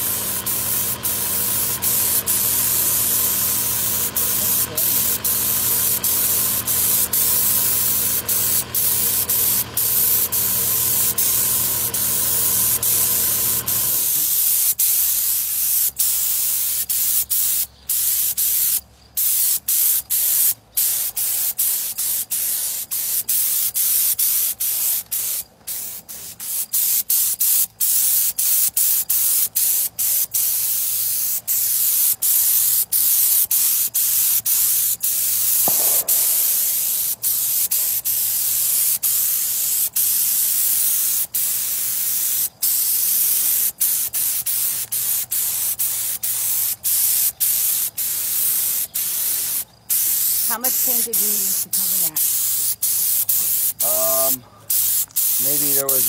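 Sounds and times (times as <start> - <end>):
paint spray gun hissing: 0.0 - 56.0.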